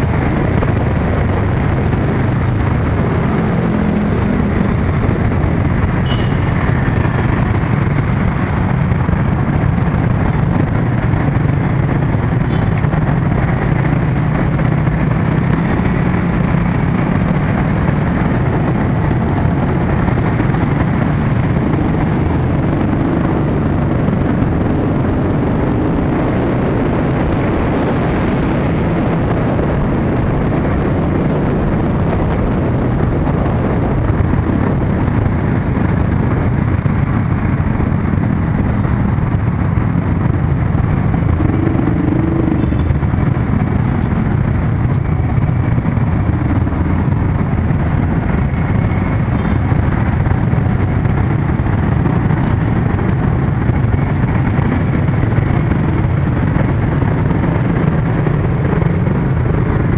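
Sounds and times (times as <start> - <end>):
low engine hum: 0.0 - 59.9
scooters and cars passing: 0.0 - 59.9.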